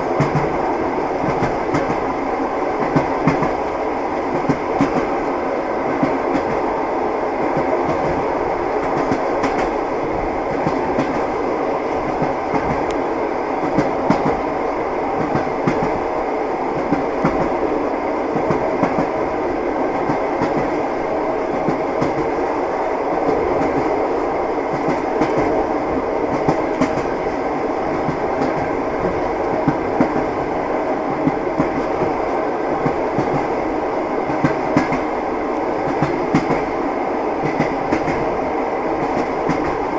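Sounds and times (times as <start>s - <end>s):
train wheels clickety-clack: 0.0s - 17.6s, 18.3s - 39.9s
rolling rumble of train: 0.0s - 39.9s.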